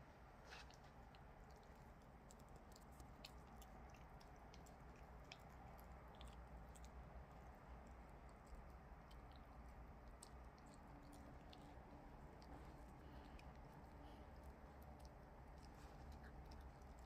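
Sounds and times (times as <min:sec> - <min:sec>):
dog chewing a treat: 0:00.5 - 0:17.0.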